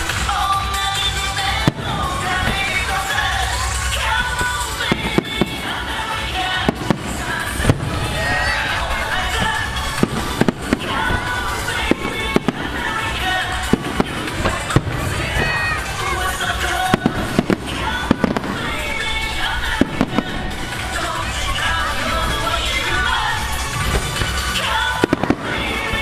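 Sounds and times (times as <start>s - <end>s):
firework shells bursting: 0.0s - 26.0s
music: 0.0s - 26.0s.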